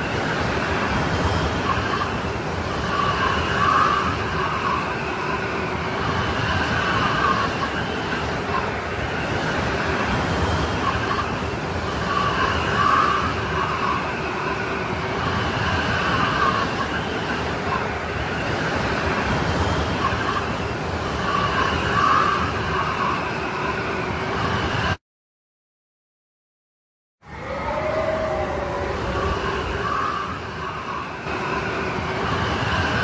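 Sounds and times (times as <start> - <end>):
howling snowstorm wind: 0.0 - 25.0, 27.2 - 33.0.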